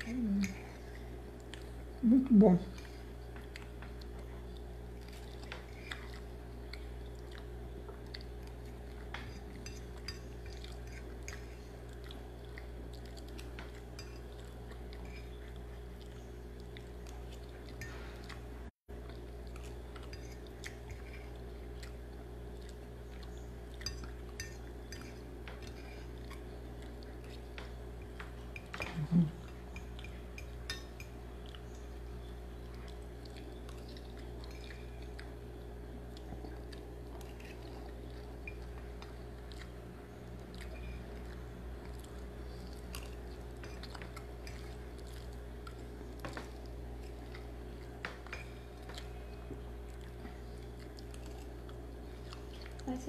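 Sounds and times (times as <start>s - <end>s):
quiet chewing: 0.0s - 53.0s
steady low hum: 0.0s - 53.0s.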